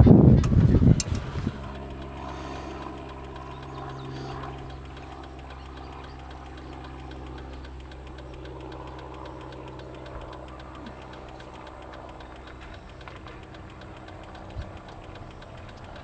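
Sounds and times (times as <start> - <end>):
motor humming with fast ticking: 0.0 - 16.0.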